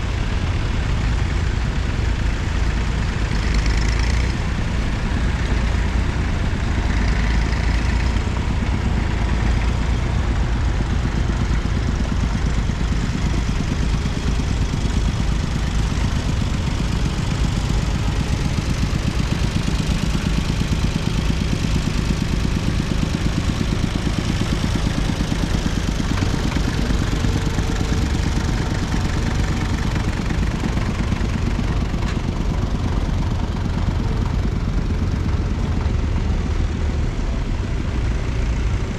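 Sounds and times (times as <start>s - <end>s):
tractor engines running: 0.0s - 38.9s.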